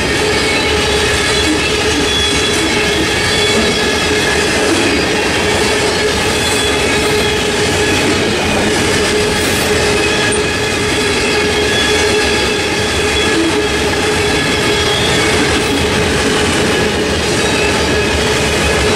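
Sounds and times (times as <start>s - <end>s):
train wheels rumbling on rail: 0.0s - 18.9s
steady squealing tone: 0.2s - 18.9s.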